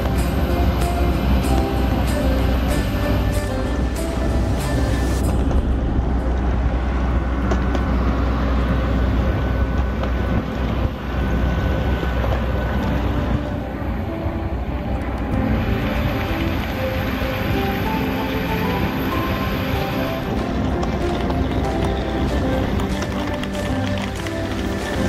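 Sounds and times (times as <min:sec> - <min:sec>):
aircraft cabin engine rumble: 0:00.0 - 0:25.0.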